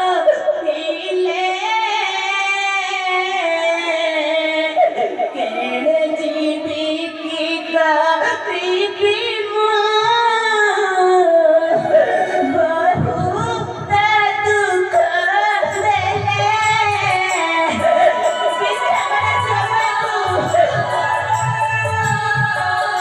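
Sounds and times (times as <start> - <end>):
person singing stage song: 0.0 - 23.0.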